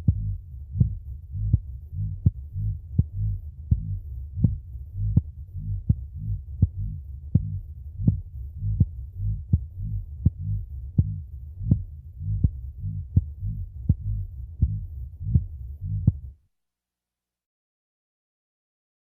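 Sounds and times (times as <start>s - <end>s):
heartbeat thumps: 0.0s - 16.3s.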